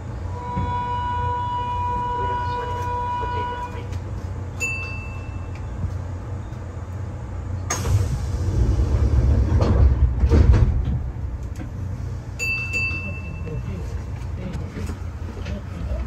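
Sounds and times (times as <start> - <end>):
train low hum: 0.0 - 16.0
train rumble: 0.0 - 16.0.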